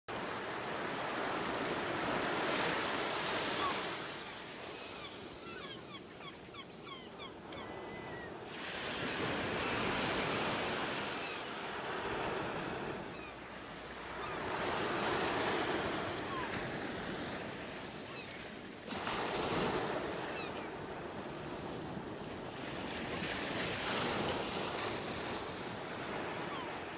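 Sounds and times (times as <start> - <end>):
ocean waves washing: 0.1 - 26.9.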